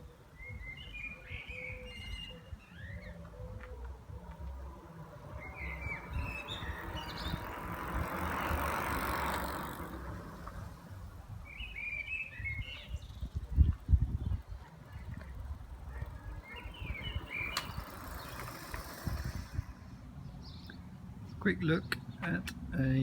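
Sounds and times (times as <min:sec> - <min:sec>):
wind rumble on microphone: 0:00.0 - 0:20.1
birds chirping: 0:00.0 - 0:23.0
electric bike riding past: 0:00.5 - 0:21.0.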